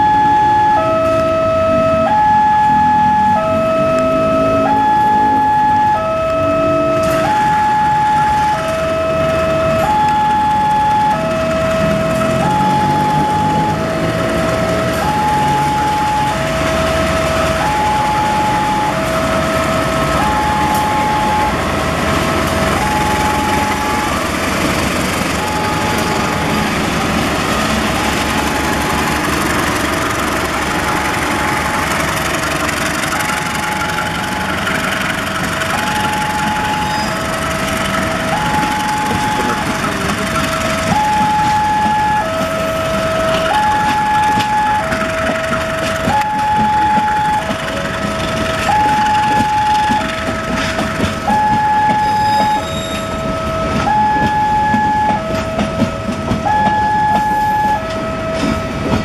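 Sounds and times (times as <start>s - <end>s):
diesel engine rumble: 0.0s - 59.0s
level crossing two-tone alarm: 0.0s - 59.0s.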